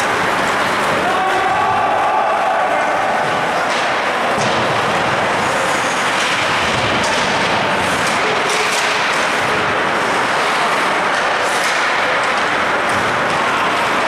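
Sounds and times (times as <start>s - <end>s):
ice hockey rink din: 0.0s - 14.0s.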